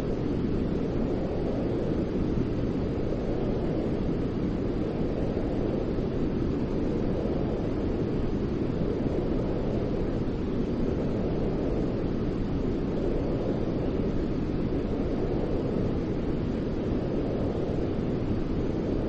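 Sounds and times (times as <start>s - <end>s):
deep white noise hiss: 0.0s - 19.0s.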